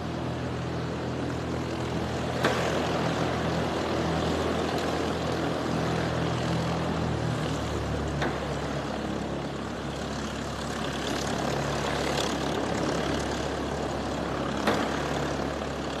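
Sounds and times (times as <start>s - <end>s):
propeller plane engine running: 0.0s - 16.0s.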